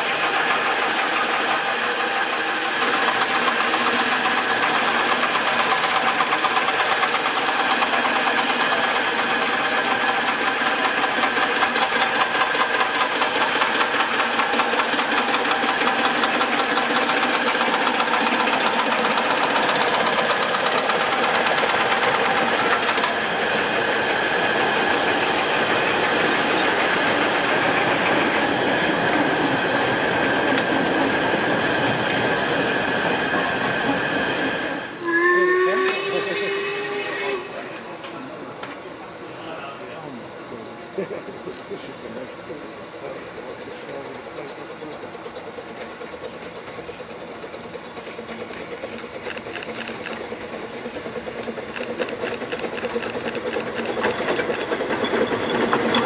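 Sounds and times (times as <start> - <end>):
steam hissing: 0.0 - 56.0
steam locomotive exhaust beat: 0.0 - 56.0.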